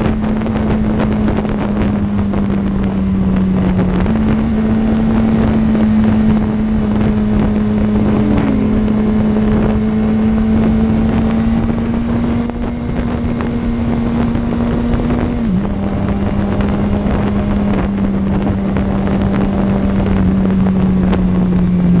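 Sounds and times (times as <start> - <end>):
motorcycle engine cruising: 0.0 - 22.0
wind noise on microphone: 0.0 - 22.0.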